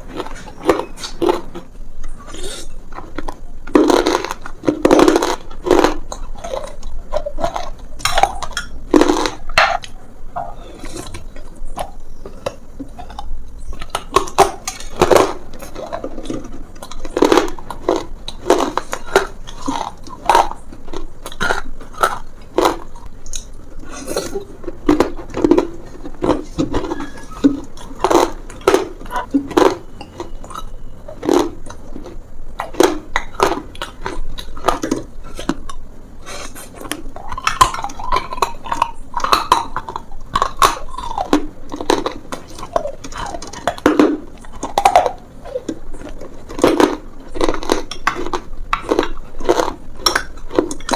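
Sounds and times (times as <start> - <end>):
chewing brittle material crunches: 0.0 - 10.0, 10.6 - 50.9.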